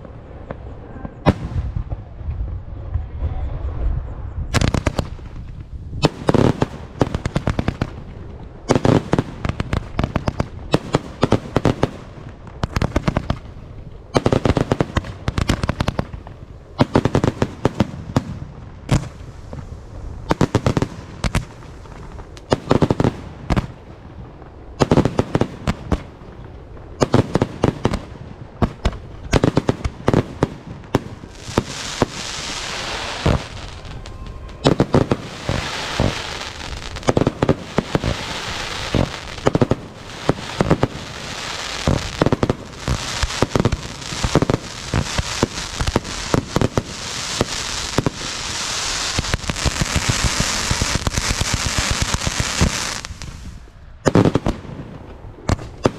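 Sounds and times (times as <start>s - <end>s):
fireworks bangs: 0.0s - 3.7s, 4.5s - 55.9s
fireworks crackling: 4.5s - 55.9s.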